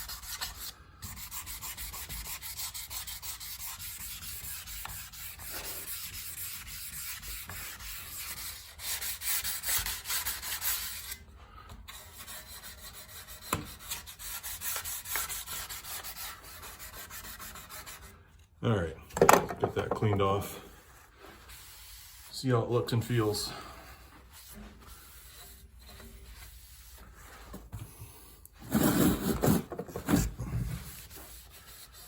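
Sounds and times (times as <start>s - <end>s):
sandpaper rubbing back and forth: 0.0s - 11.2s, 11.9s - 18.4s, 20.7s - 27.5s, 30.8s - 32.0s.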